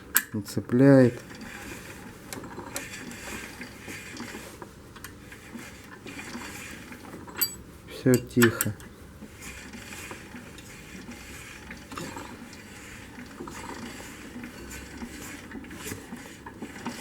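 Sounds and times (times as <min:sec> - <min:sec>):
engine turned over by hand: 0:00.0 - 0:17.0.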